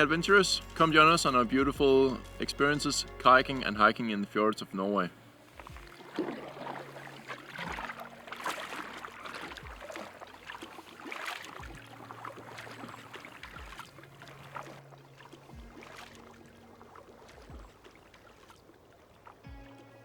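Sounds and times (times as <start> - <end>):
paddle strokes splashing water: 0.0 - 20.0
soft background music with beat: 0.0 - 20.0.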